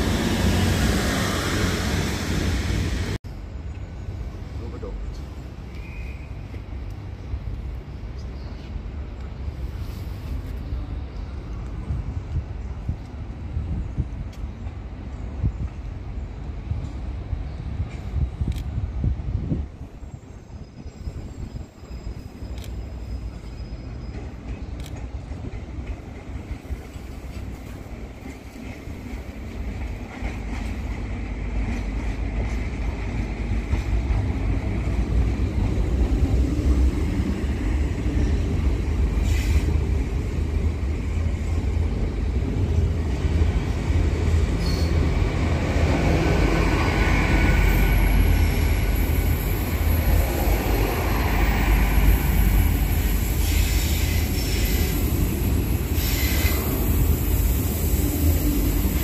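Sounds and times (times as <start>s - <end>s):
train rumbling past: 0.0s - 59.0s
faint high train squeal: 3.3s - 12.1s, 13.6s - 40.3s, 44.3s - 59.0s.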